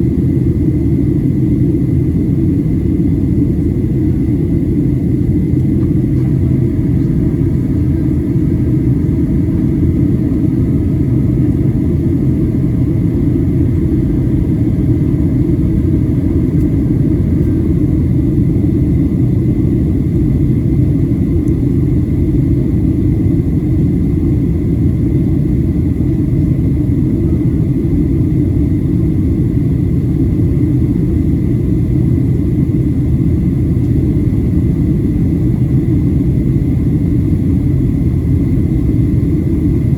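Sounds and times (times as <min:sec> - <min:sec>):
airplane cabin rumble: 0:00.0 - 0:39.9
faint steady whine: 0:00.0 - 0:39.9.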